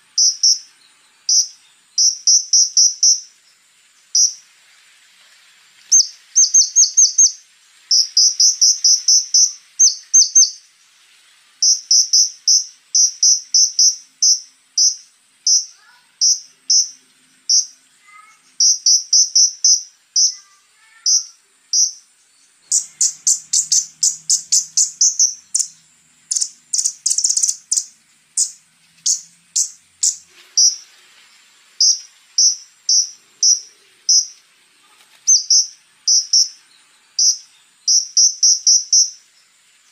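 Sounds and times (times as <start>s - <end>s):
high insect-like whine: 0.0s - 39.9s.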